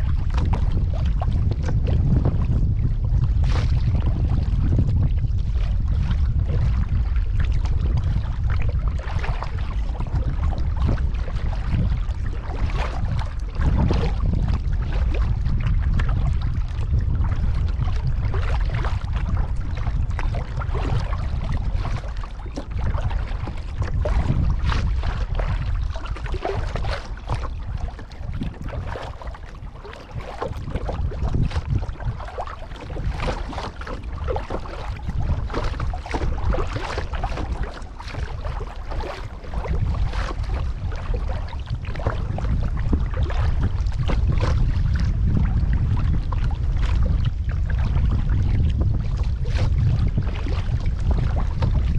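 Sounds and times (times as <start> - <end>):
paddle splashes and drips: 0.0 - 51.9
wind on microphone: 0.0 - 51.9.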